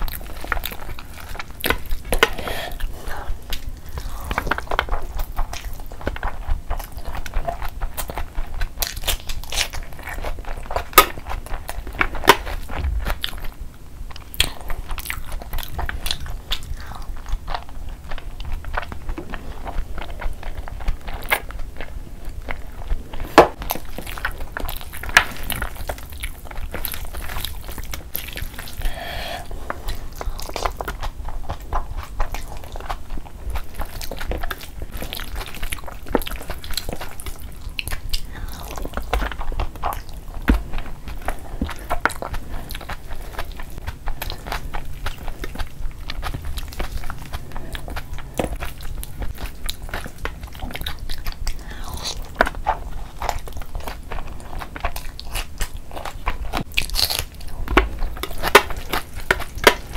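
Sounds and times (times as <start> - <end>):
chewing and biting: 0.0 - 59.9.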